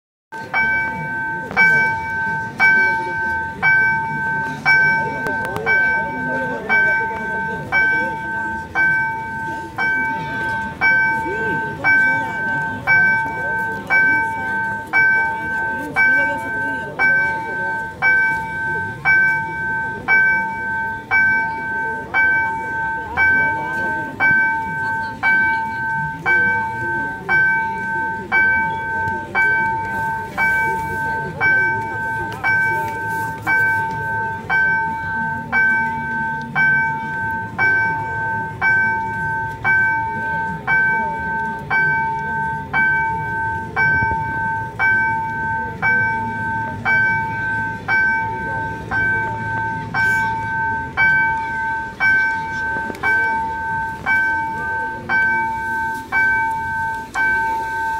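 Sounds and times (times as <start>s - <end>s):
level crossing warning bell ringing: 0.3s - 57.9s
street noise rumble: 0.3s - 57.9s.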